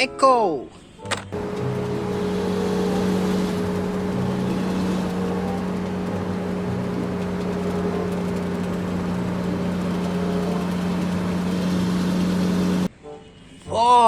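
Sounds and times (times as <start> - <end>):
engine-like hum: 1.1 - 12.9.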